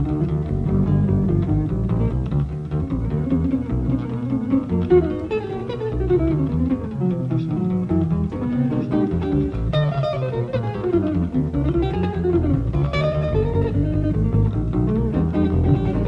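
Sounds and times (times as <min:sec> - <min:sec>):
acoustic guitar playing: 0:00.0 - 0:16.0
bass line: 0:00.0 - 0:16.0.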